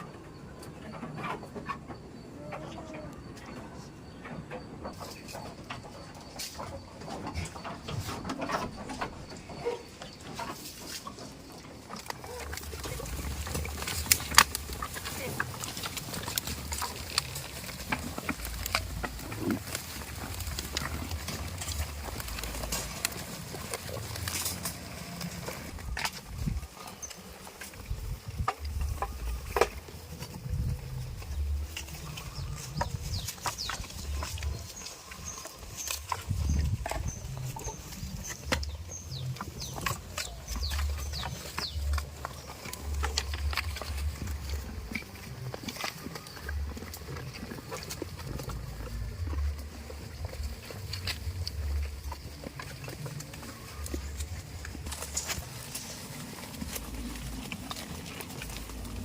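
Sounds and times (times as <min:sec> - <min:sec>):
goat hooves clicking and knocking: 0:00.0 - 0:59.0
low rumbling: 0:11.4 - 0:59.0.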